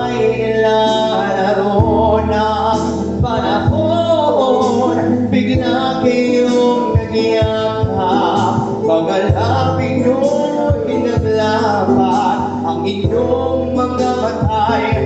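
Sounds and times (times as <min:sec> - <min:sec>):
man singing into microphone: 0:00.0 - 0:15.0
musical accompaniment with soft beat: 0:00.0 - 0:15.0.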